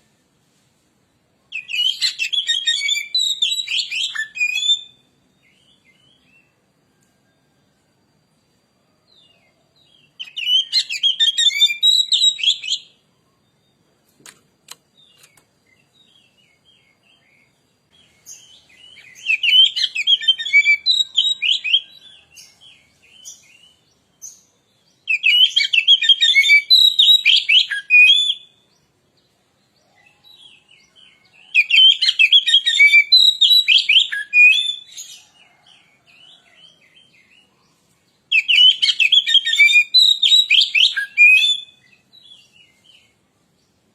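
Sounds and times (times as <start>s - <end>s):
bird singing varied phrases: 1.5s - 6.7s, 9.0s - 14.0s, 14.7s - 43.9s.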